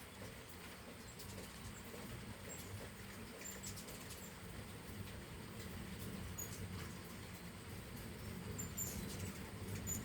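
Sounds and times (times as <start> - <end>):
low steady background hiss: 0.0 - 10.0.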